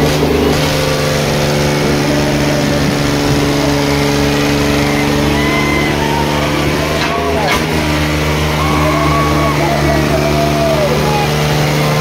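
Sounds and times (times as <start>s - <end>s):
tractor diesel engines straining: 0.0s - 12.0s.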